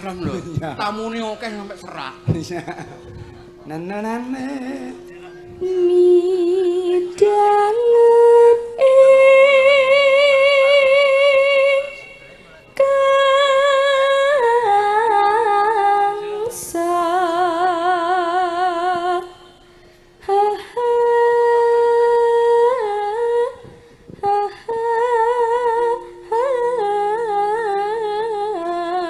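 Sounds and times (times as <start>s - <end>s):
woman singing with vibrato: 2.2s - 29.0s.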